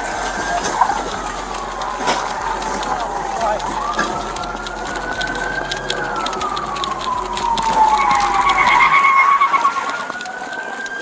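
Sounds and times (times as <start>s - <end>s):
police sirens wailing: 0.0s - 11.0s.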